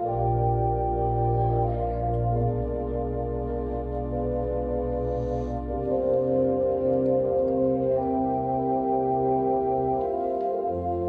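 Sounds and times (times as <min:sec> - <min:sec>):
organ playing sustained chords: 0:00.0 - 0:11.0.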